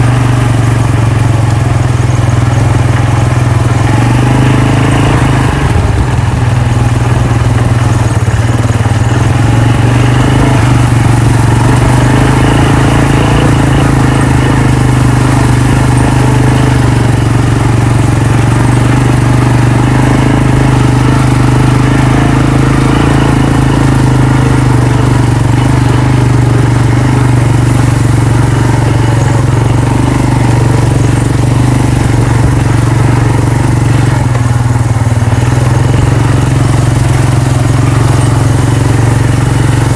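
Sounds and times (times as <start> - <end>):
quad bike engine droning: 0.0 - 39.9.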